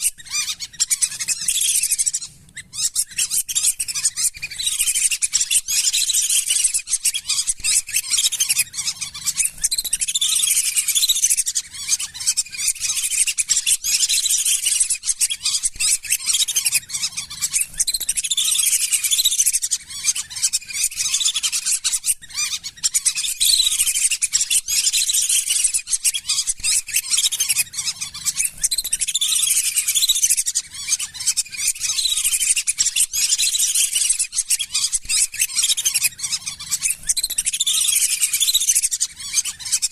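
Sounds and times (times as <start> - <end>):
ducks whistling calls: 0.0 - 39.9.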